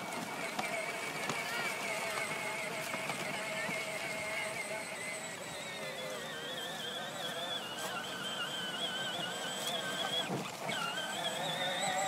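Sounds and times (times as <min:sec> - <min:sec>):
ride-on toy electric motors whining: 0:00.0 - 0:12.0.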